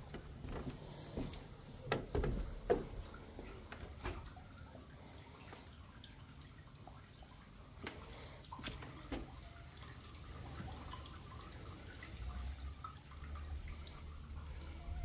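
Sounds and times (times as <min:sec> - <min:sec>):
water dripping into pool: 0:00.0 - 0:15.0.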